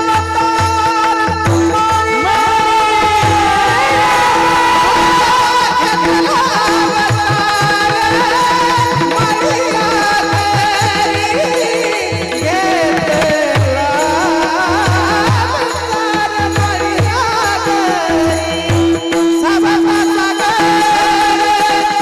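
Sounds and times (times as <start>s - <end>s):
drum beating a rhythm: 0.0s - 22.0s
high male voice singing: 0.0s - 22.0s.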